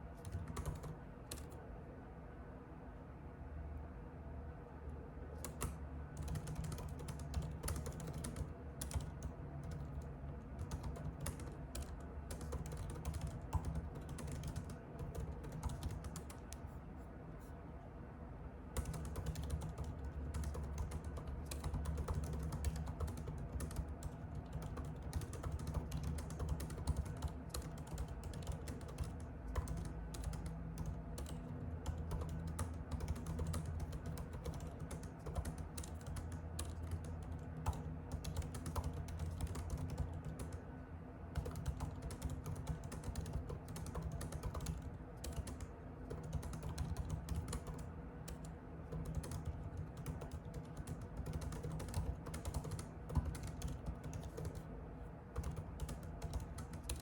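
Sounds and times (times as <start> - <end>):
low steady hum: 0.0 - 57.0
computer keyboard typing: 0.2 - 1.6, 5.4 - 16.6, 18.7 - 40.6, 41.3 - 54.7, 55.3 - 57.0.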